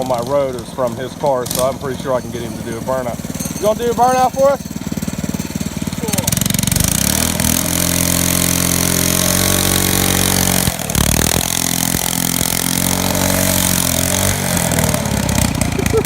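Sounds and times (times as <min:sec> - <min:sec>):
small engine at high revs: 0:00.0 - 0:16.0.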